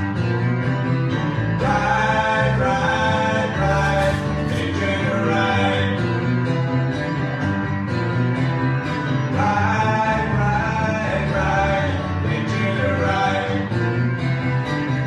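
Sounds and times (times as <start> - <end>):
live band led by guitar: 0.0 - 15.0.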